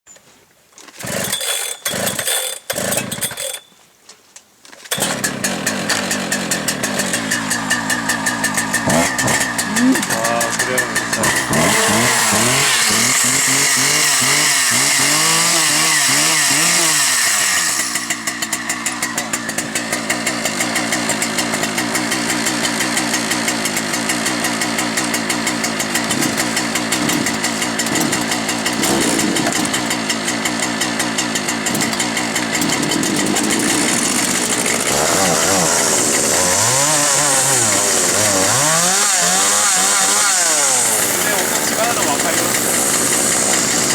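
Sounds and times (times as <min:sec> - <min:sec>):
chainsaw revving and cutting: 0:01.0 - 0:03.6, 0:04.9 - 0:43.9.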